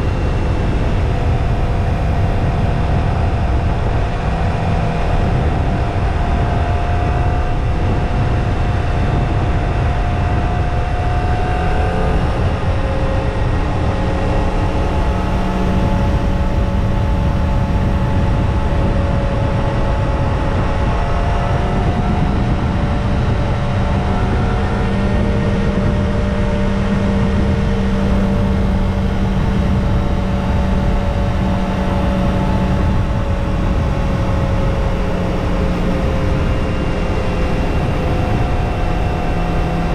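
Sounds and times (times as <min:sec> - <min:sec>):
dense low rush: 0:00.0 - 0:39.9
motorcycle engine running: 0:00.0 - 0:39.9.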